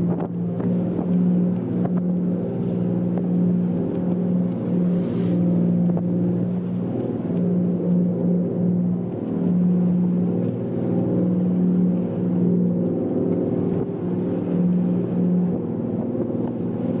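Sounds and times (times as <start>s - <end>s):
pulsing machinery drone: 0.0s - 17.0s.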